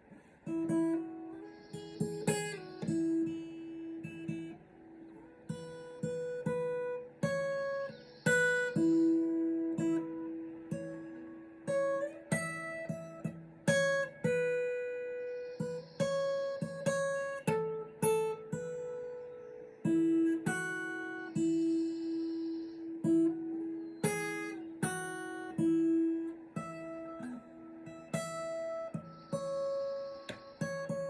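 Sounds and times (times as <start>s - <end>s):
acoustic guitar: 0.0s - 31.0s.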